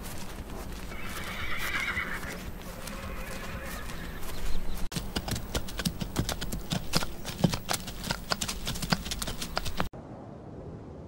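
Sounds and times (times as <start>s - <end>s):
horse hooves clopping: 0.0s - 9.9s.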